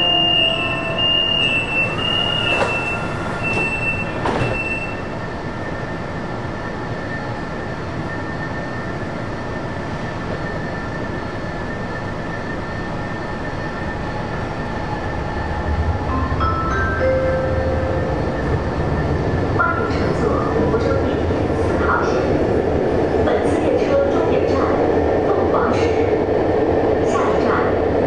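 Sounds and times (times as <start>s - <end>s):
train moving off: 0.0s - 27.3s
train hum: 0.0s - 28.0s.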